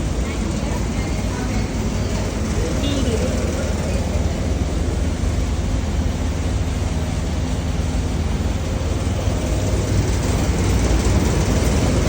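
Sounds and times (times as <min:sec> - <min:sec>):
sifting machine drone: 0:00.0 - 0:12.0.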